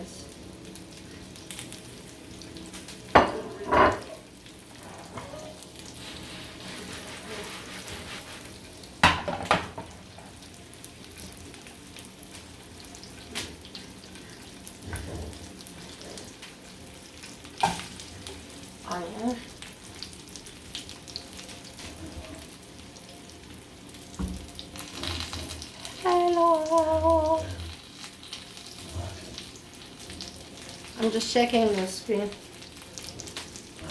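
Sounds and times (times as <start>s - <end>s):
chicken frying in hot oil: 0.0s - 33.9s.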